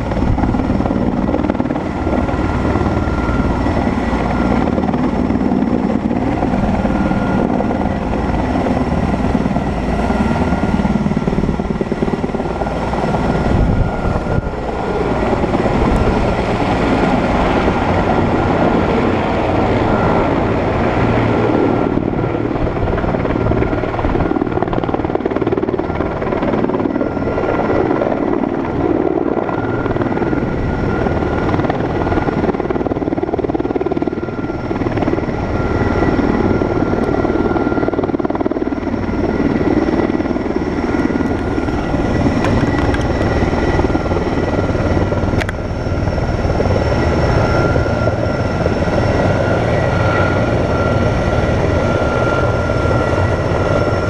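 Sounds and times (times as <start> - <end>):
helicopter engine whine: 0.0 - 54.0
helicopter rotor noise: 0.0 - 54.0.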